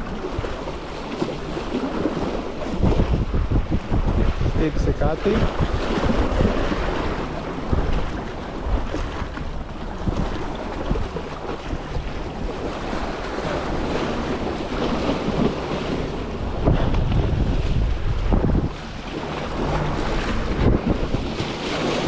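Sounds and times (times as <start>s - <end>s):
sea waves: 0.0s - 22.0s
wind buffeting microphone: 0.0s - 22.0s.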